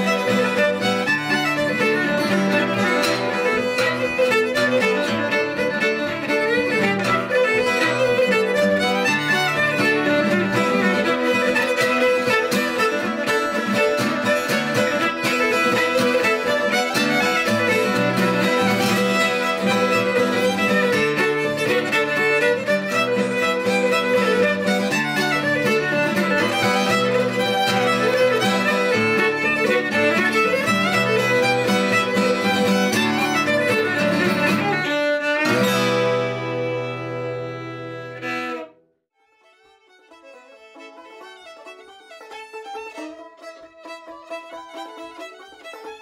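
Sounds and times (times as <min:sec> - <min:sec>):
strummed acoustic guitar: 0:00.0 - 0:38.7
fiddle playing a reel: 0:00.0 - 0:46.0.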